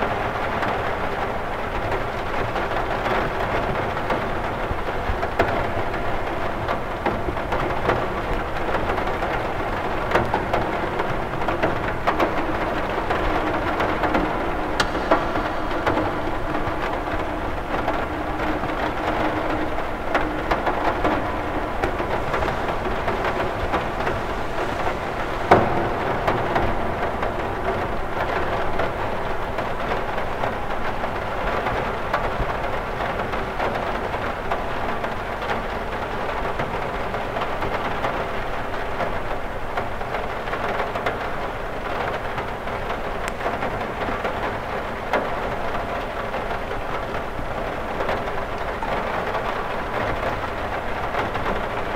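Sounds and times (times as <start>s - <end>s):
rain pattering on window glass: 0.0s - 51.9s.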